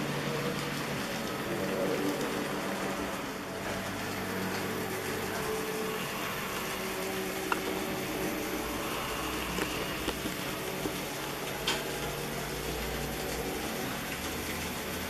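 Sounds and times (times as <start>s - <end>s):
model train motor hum: 0.0s - 15.0s.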